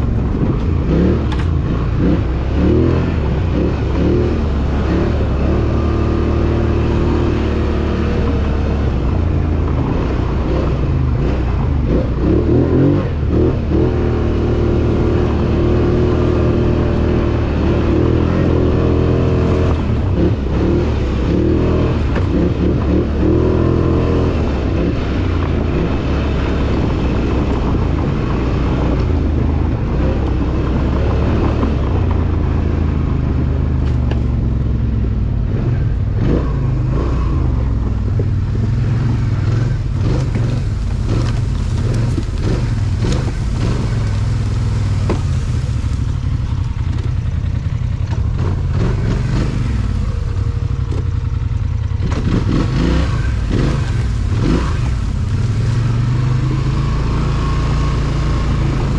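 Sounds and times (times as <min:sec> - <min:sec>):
off-road vehicle engine running: 0:00.0 - 0:58.9
vehicle clattering over rough ground: 0:00.0 - 0:58.9.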